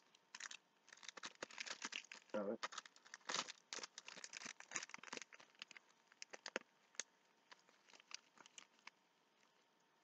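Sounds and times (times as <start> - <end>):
packaging crinkling and tearing: 0.0 - 9.5.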